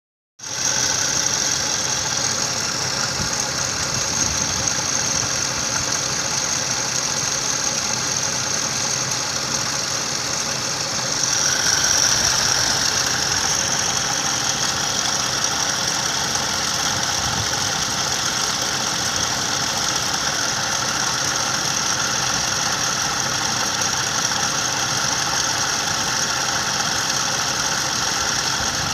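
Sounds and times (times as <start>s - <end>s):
car engine idling: 0.4s - 28.9s
high-pitched pulley whine: 0.4s - 28.9s.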